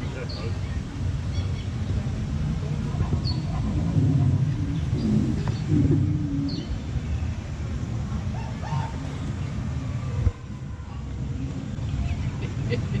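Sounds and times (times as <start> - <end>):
ride boat rumble: 0.0 - 13.0.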